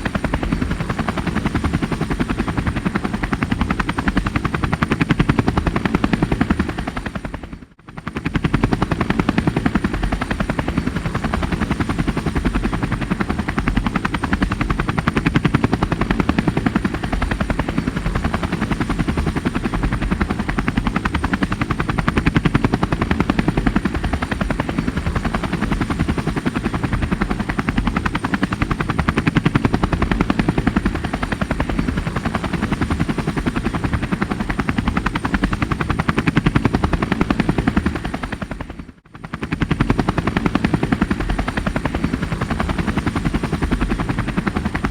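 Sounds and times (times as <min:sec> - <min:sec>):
helicopter rotor blades chopping: 0:00.0 - 0:44.9.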